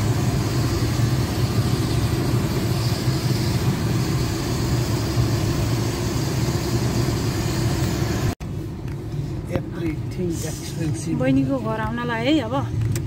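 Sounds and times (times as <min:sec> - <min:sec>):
car engine noise: 0:00.0 - 0:13.0.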